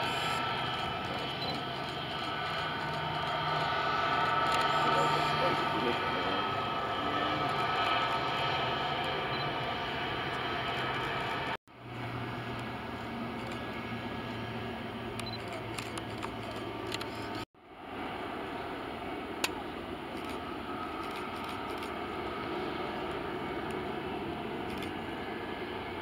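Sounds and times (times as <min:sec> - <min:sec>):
jet engines running at low power: 0:00.0 - 0:26.0.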